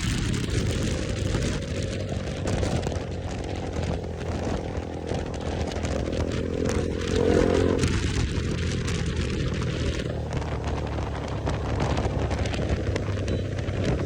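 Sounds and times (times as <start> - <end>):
motorcycle engine: 0.0 - 14.0
wind and road rush: 0.0 - 14.0.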